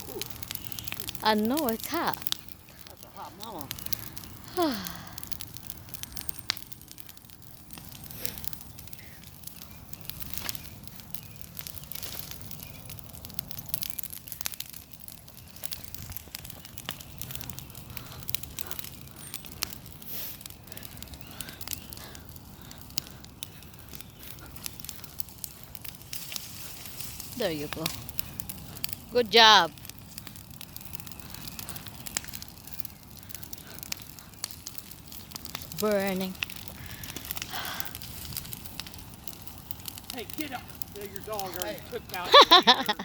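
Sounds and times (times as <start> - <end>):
bonfire crackling and popping: 0.0 - 43.0
rush of flame: 1.8 - 29.2, 29.8 - 43.0.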